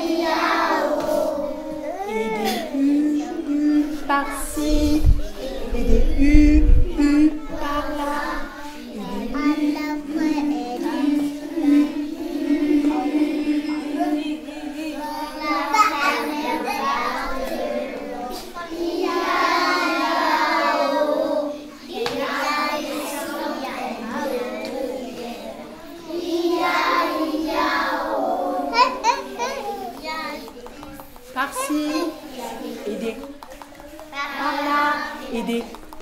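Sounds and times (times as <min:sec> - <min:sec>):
children singing together: 0:00.0 - 0:36.0.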